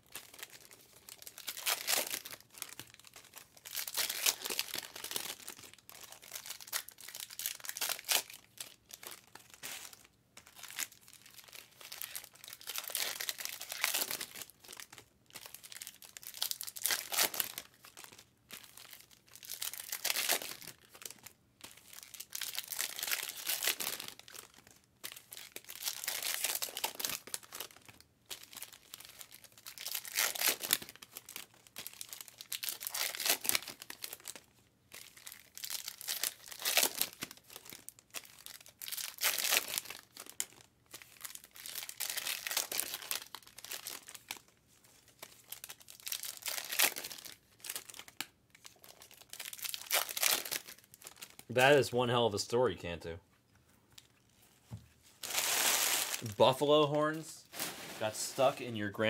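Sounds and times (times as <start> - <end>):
foil wrappers crinkling and tearing: 0.0 - 51.5, 55.1 - 59.0.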